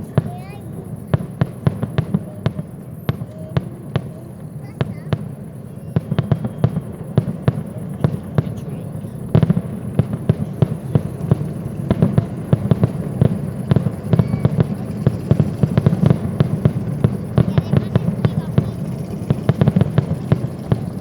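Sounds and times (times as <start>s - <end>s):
fireworks bangs and cracks: 0.0s - 21.0s
low continuous rumble: 0.0s - 21.0s.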